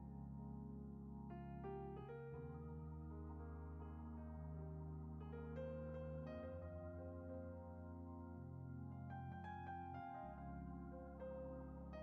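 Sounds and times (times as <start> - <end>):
soft ambient keyboard chords: 0.0 - 12.0.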